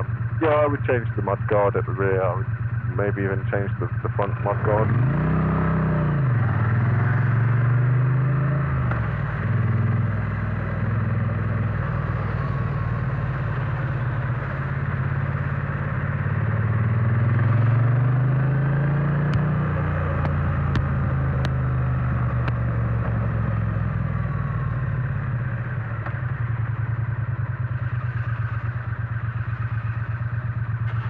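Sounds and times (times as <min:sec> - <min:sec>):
motorcycle engine running: 0:00.0 - 0:31.0
wind and road noise: 0:04.4 - 0:31.0.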